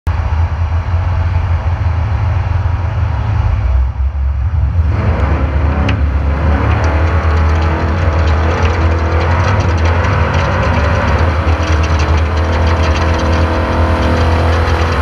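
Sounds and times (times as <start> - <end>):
truck engine low rumble: 0.1 - 15.0.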